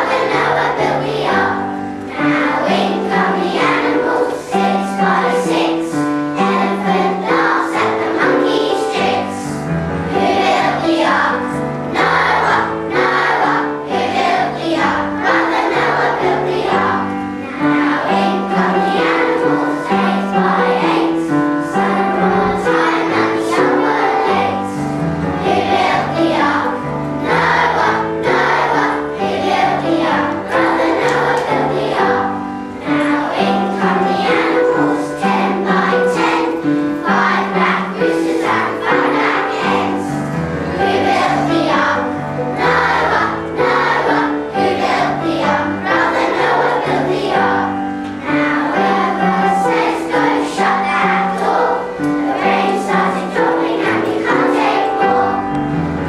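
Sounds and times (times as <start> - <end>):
children's choir singing: 0.0 - 56.0
instrumental accompaniment: 0.0 - 56.0.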